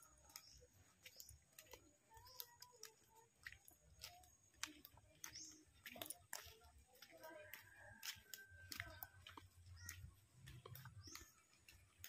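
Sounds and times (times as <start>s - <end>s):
small clicks and rustles: 0.0s - 12.0s.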